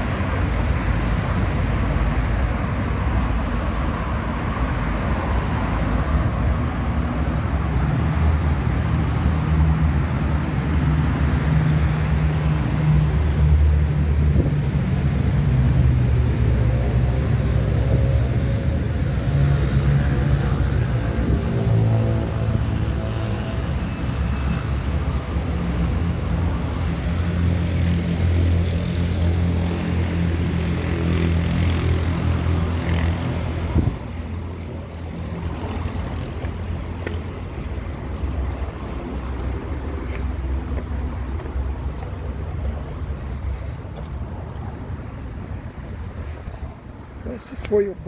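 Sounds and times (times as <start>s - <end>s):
street traffic noise: 0.0s - 48.0s.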